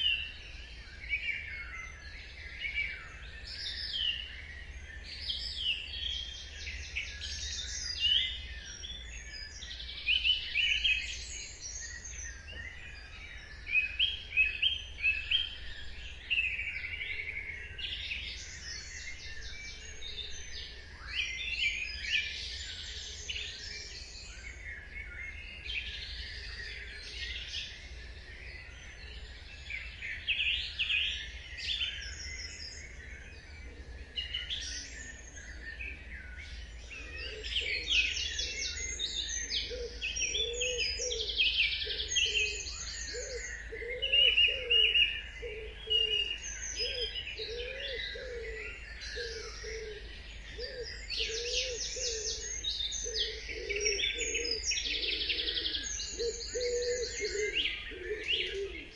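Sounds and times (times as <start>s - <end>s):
songbirds singing and chirping: 0.0s - 58.9s
low bird call: 1.2s - 58.9s.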